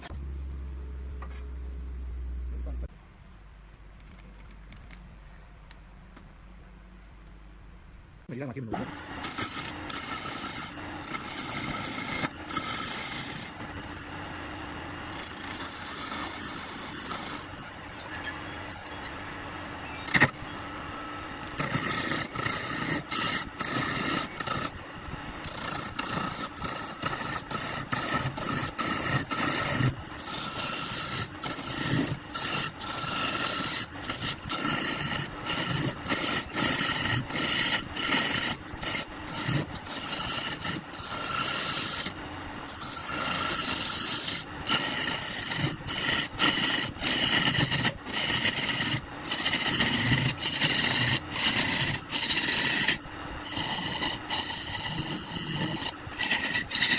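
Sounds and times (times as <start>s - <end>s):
tool scraping spinning wood: 0.0s - 0.3s, 8.8s - 56.9s
wood lathe running: 8.8s - 56.9s.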